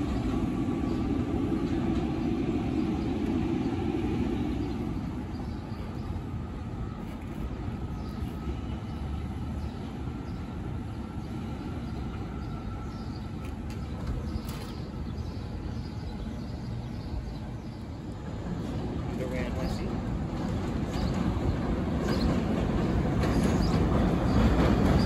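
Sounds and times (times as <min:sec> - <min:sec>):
distant train rumbling: 0:00.0 - 0:25.0.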